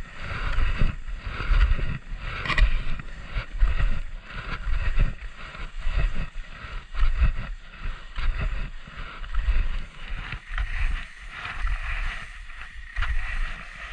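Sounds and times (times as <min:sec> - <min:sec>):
skis sliding on snow: 0:00.0 - 0:13.9
wind buffeting microphone: 0:00.0 - 0:13.9.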